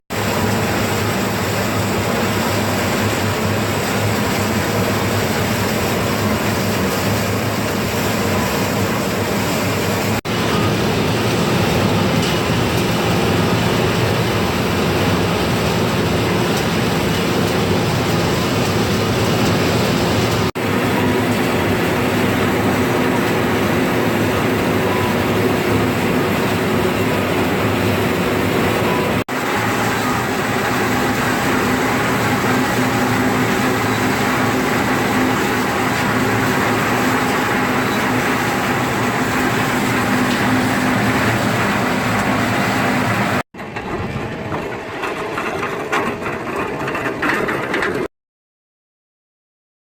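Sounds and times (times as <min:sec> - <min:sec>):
mill machinery humming: 0:00.1 - 0:48.1
uneven machine sound: 0:00.2 - 0:48.1.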